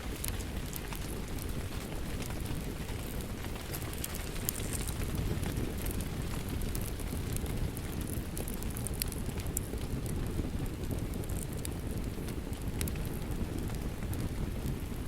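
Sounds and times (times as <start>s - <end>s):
fireplace crackling: 0.1s - 15.0s.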